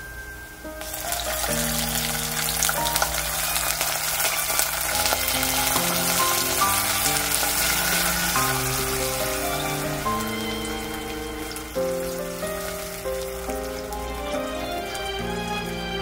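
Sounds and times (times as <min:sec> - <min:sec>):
plucked background music: 0:00.8 - 0:16.0
water sizzling in a hot pan: 0:00.8 - 0:16.0.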